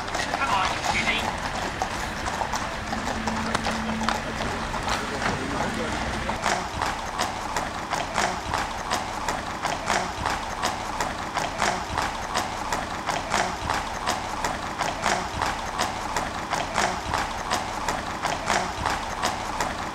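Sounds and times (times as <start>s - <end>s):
horse hooves on hard road: 0.0s - 19.9s.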